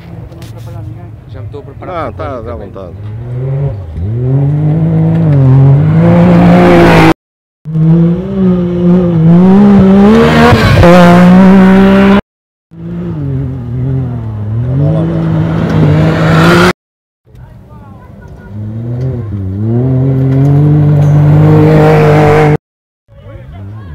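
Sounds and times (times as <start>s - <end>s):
buggy engine revving: 1.8s - 16.7s, 18.2s - 22.6s.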